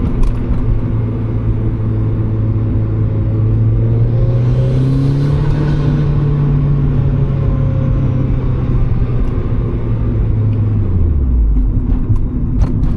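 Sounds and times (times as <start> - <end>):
car engine droning while driving: 0.0 - 12.9.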